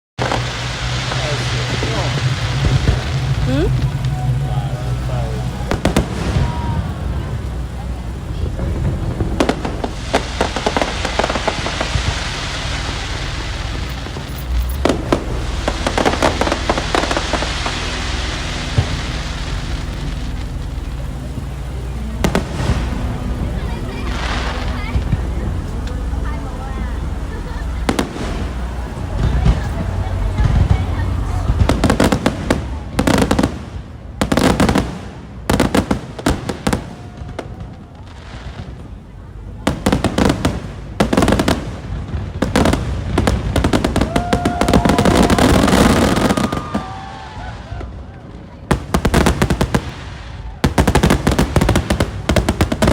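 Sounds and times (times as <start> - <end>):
fireworks crackling pops: 0.2 - 52.9
low firework boom: 0.2 - 52.9
steady hiss: 0.2 - 52.9.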